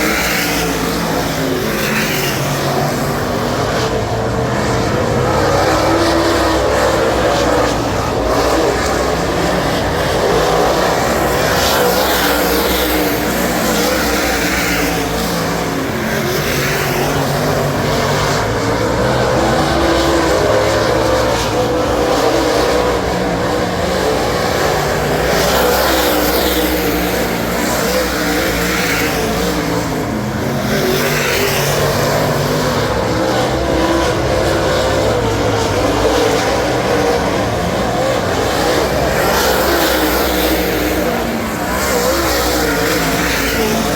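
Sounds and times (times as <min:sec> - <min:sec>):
race car engine running hard: 0:00.0 - 0:43.9.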